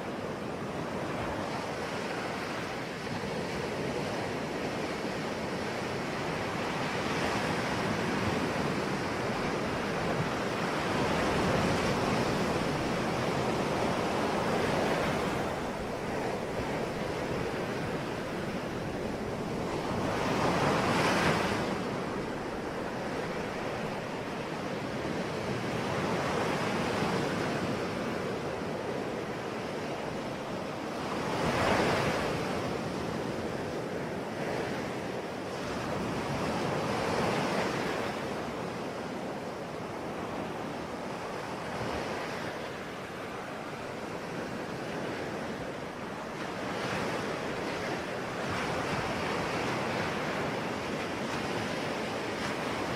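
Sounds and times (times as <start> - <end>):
ocean waves breaking on shore: 0.0 - 52.9.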